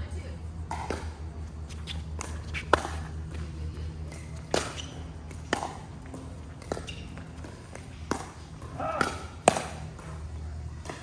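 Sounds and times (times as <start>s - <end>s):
steady low hum: 0.0s - 11.0s
paddles hitting plastic ball: 2.0s - 11.0s.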